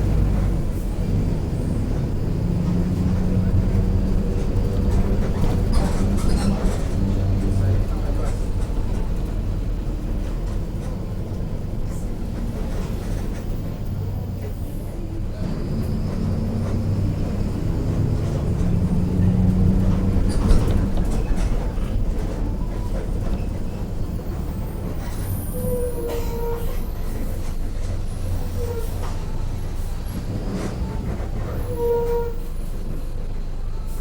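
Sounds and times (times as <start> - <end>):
bus diesel engine droning: 0.0 - 34.0.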